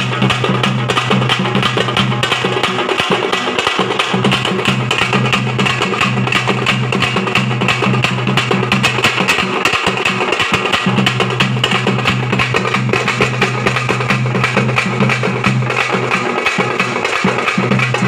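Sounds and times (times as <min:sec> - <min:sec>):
drum ensemble playing fast rhythm: 0:00.0 - 0:18.0.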